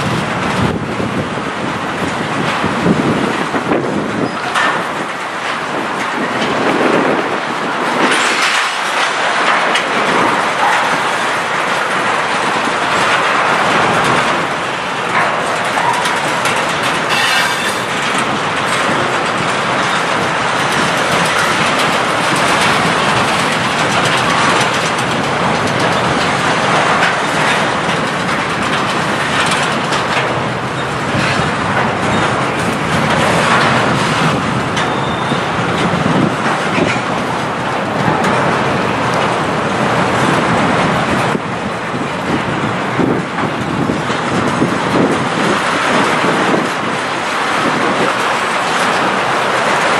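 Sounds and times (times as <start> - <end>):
train wheel and rail noise: 0.0 - 49.9
wheels clacking over rail joints: 0.0 - 49.9.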